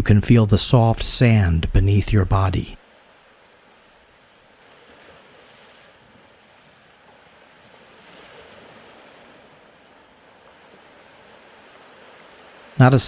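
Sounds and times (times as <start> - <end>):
faint ocean surf: 0.0 - 13.0.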